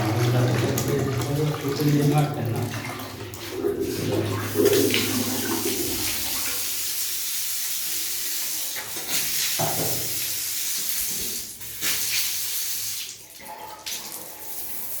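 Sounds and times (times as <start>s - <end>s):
water rushing through pipes: 0.0s - 15.0s.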